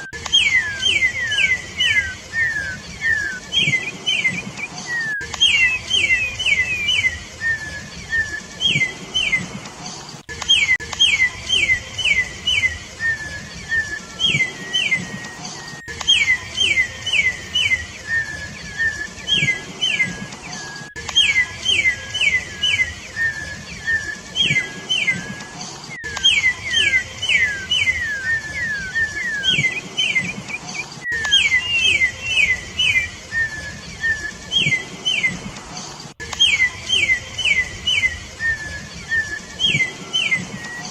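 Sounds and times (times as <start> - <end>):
bird whistling clear notes: 0.0 - 9.6, 10.4 - 35.4, 36.2 - 40.9.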